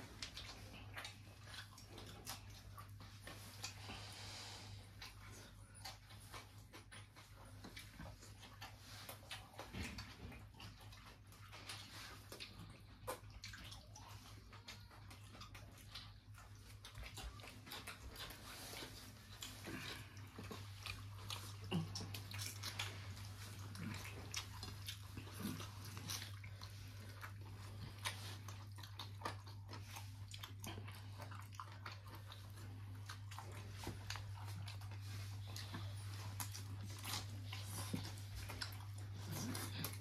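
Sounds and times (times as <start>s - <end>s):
chewing and mouth smacking: 0.0s - 40.0s.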